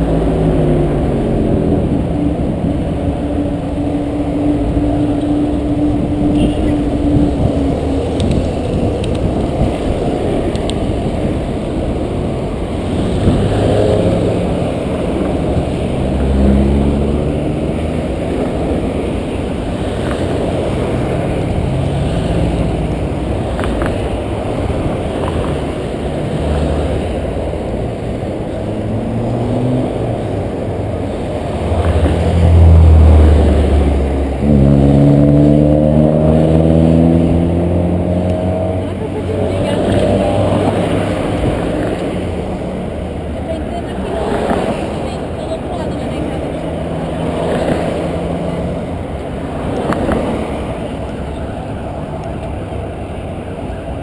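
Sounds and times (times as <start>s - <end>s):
cars accelerating past: 0.0s - 54.0s
deep engine passing: 0.0s - 54.0s
steady low traffic noise: 0.0s - 54.0s.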